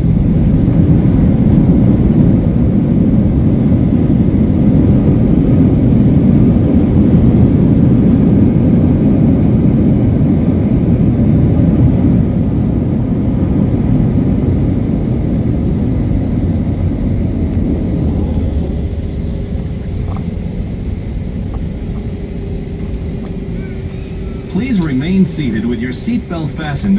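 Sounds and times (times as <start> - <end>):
plane cabin low rumble: 0.0 - 26.9.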